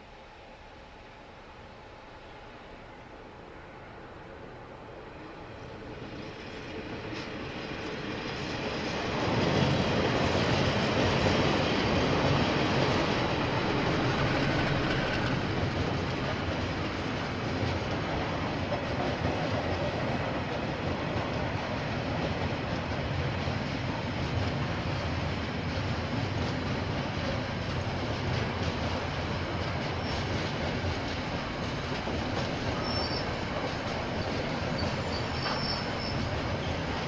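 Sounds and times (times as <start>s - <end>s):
freight train rumble: 0.0s - 37.0s
clickety-clack of wheels on rails: 5.0s - 37.0s.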